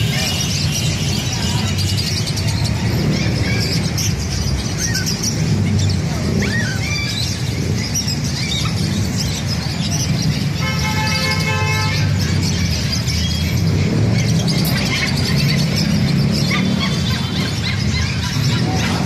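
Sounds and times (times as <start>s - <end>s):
high chirps and squeaks: 0.0s - 19.0s
low traffic rumble: 0.0s - 19.0s.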